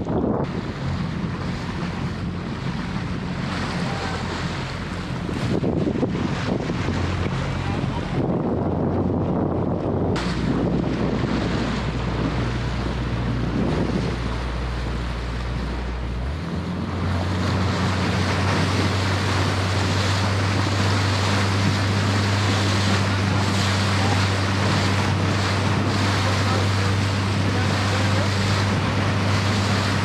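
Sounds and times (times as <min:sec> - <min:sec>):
speedboat engine running: 0:00.0 - 0:30.0
water rushing past hull: 0:00.0 - 0:30.0
wind buffeting microphone: 0:00.0 - 0:30.0.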